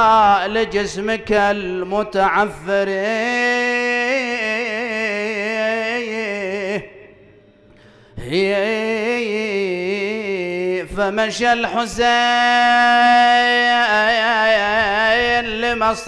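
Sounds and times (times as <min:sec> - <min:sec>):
man chanting: 0:00.0 - 0:07.1, 0:08.2 - 0:16.0.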